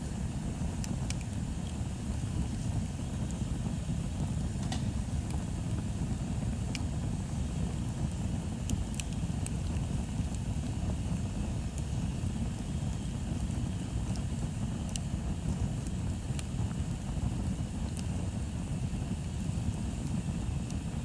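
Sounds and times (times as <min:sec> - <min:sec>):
bonfire low rumble: 0:00.0 - 0:21.0
burning wood crackling and popping: 0:00.0 - 0:21.0.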